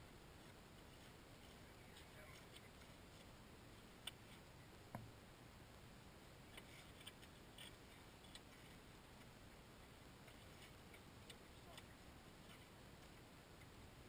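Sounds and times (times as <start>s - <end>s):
outdoor hiss: 0.0s - 14.0s.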